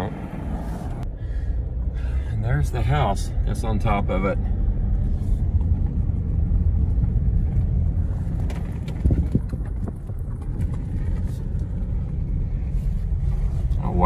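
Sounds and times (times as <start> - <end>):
tyres rumbling on gravel road: 0.0 - 14.0.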